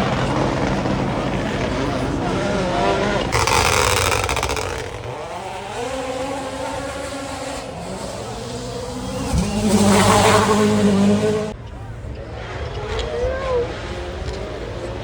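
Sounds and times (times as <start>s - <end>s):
rally car engines racing: 0.0s - 15.0s.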